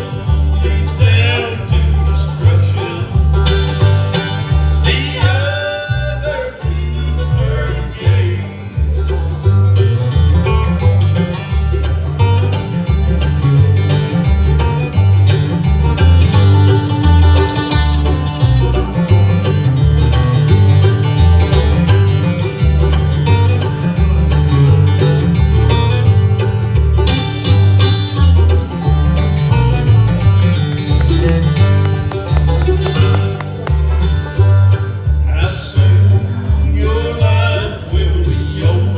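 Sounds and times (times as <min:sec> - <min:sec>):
banjo: 0:00.0 - 0:38.9
bluegrass band playing live: 0:00.0 - 0:38.9
guitar: 0:00.0 - 0:38.9
steady bass beat: 0:00.0 - 0:38.9.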